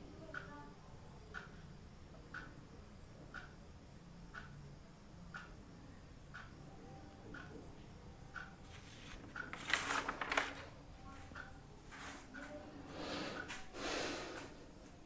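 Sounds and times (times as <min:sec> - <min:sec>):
faint clock ticking: 0:00.0 - 0:15.0.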